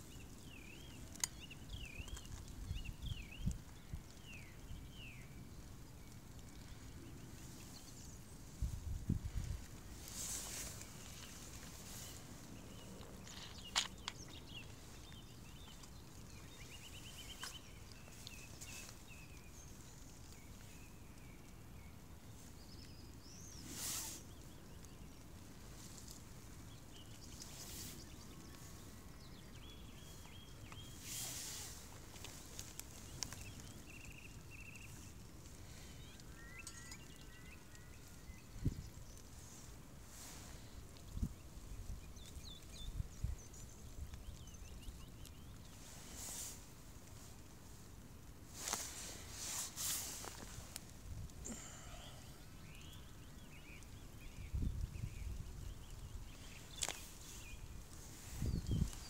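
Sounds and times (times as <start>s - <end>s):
faint birdsong: 0.0s - 59.0s.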